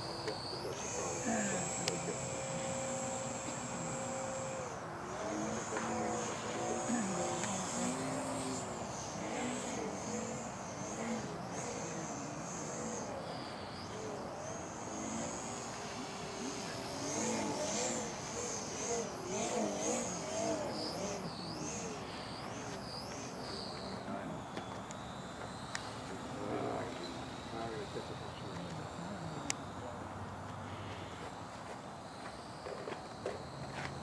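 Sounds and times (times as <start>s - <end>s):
model airplane motor whining: 0.0s - 34.0s.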